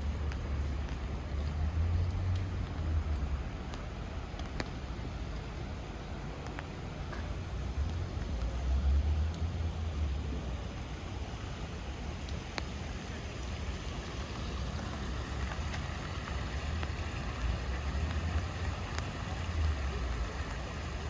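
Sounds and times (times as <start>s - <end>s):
steady rain on streets: 0.0s - 21.0s.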